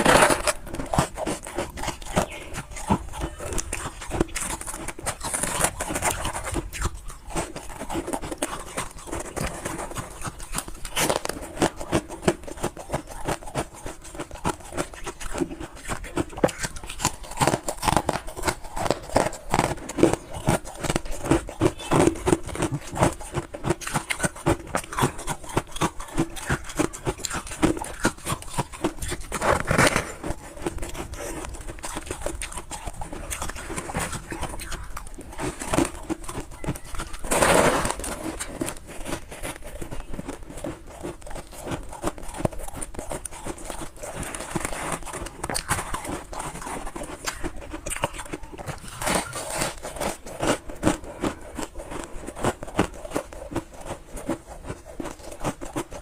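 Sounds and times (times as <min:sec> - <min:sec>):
crunching and chewing frost: 0:00.0 - 0:56.0.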